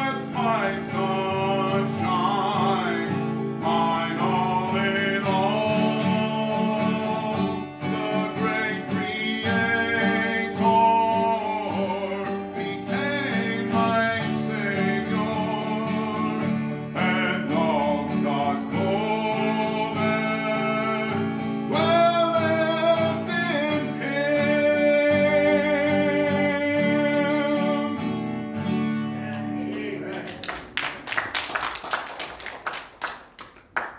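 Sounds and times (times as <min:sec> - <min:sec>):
man singing gospel song: 0:00.0 - 0:28.2, 0:29.0 - 0:30.7
strummed acoustic guitar: 0:00.0 - 0:30.4.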